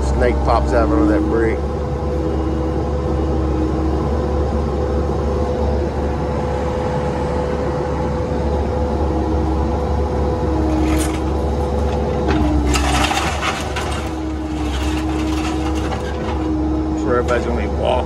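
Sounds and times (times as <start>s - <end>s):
diesel engine running: 0.0s - 18.0s
hydraulic whine: 0.0s - 18.0s
lower hydraulic whine: 0.0s - 18.0s.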